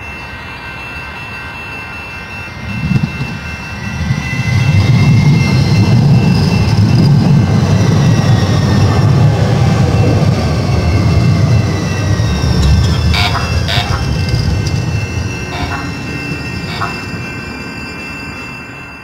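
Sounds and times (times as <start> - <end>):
light-rail train passing: 0.0 - 19.0.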